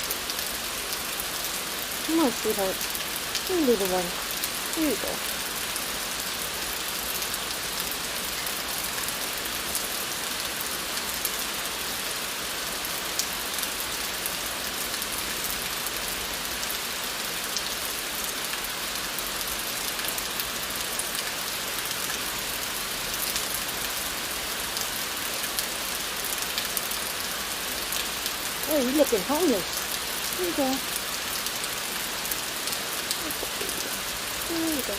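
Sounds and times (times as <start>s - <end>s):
rain on hard surfaces: 0.0s - 34.9s.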